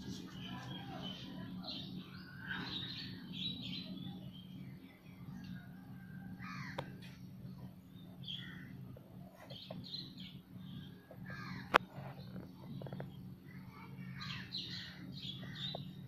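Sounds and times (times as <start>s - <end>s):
birds calling: 0.0s - 16.0s
steady low hum: 0.0s - 16.0s.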